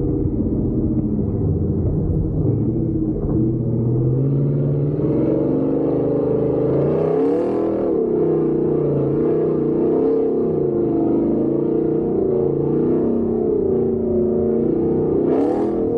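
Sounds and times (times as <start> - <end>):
truck engine revving: 0.0 - 15.9.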